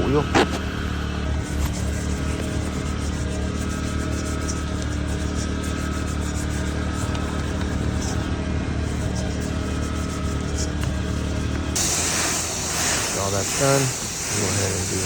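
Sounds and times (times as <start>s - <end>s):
car wash machine hum: 0.0s - 15.0s.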